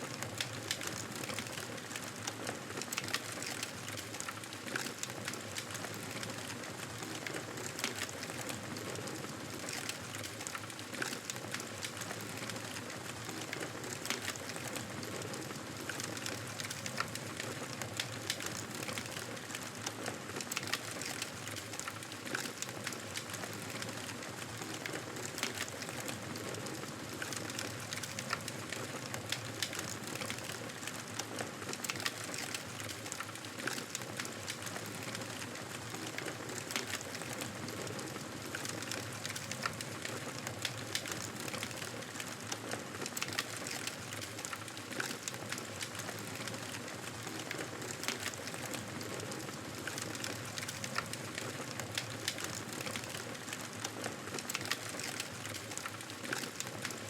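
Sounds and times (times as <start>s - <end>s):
fire crackles and pops: 0.1s - 57.0s.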